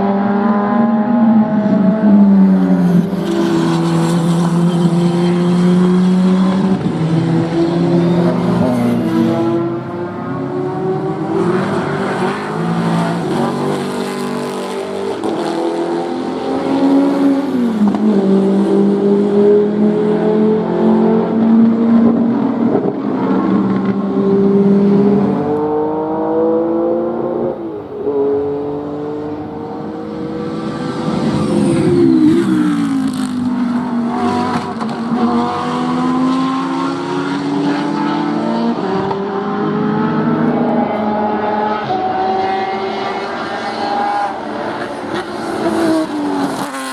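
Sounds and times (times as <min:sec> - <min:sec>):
race car engines revving: 0:00.0 - 0:46.9.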